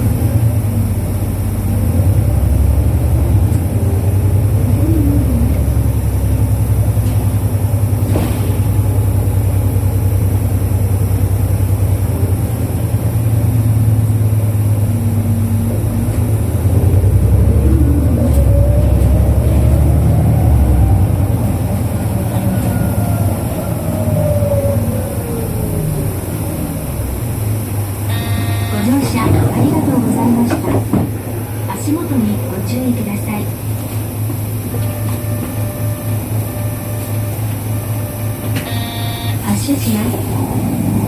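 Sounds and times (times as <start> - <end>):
bus diesel engine drone: 0.0 - 41.0
faint engine whine: 0.0 - 41.0.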